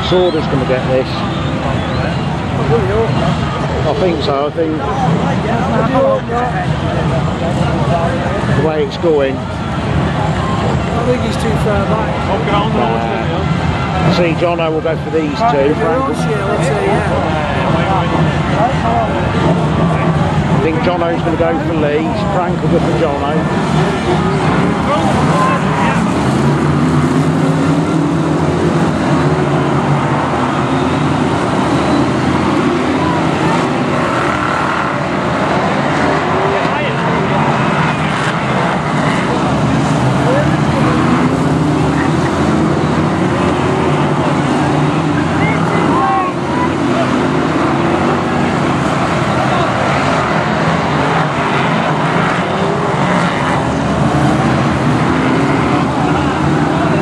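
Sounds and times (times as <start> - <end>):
racing car engines: 0.0 - 57.0.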